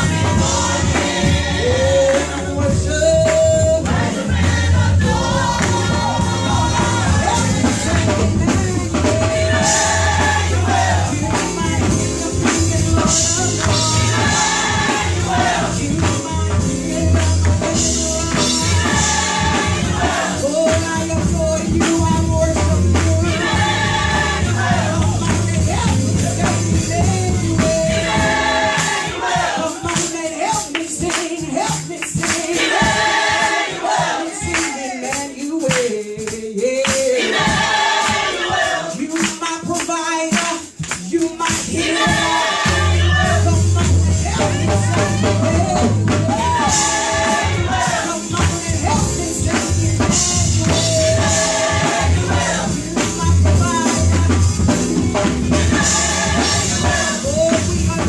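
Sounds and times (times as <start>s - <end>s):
gospel choir singing: 0.0s - 58.0s
instrumental accompaniment: 0.0s - 58.0s.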